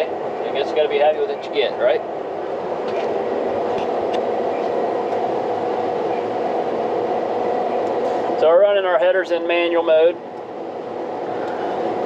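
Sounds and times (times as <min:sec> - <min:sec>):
combine harvester humming: 0:00.0 - 0:12.0.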